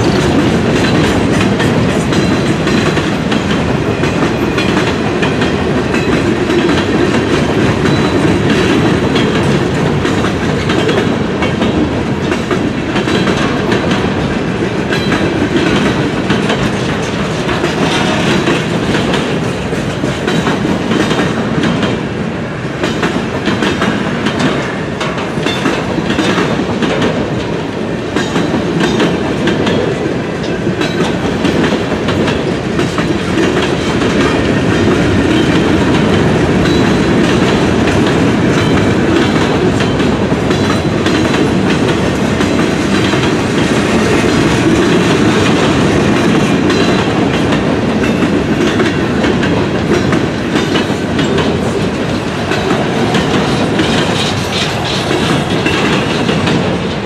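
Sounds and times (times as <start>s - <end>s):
wheels clicking over rail joints: 0.0s - 22.0s, 22.7s - 57.0s
train wheels rumbling on rails: 0.0s - 57.0s.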